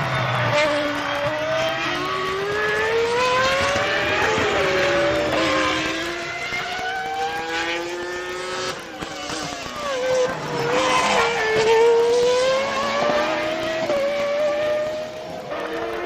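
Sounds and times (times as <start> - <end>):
racing car engine at high revs: 0.0 - 16.0.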